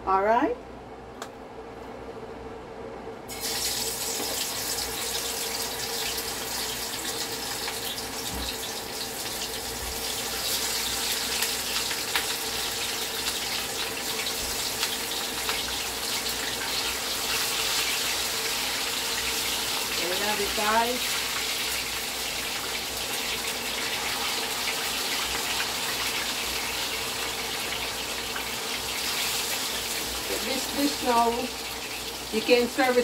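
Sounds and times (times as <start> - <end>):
chicken sizzling in hot oil: 3.3 - 33.0.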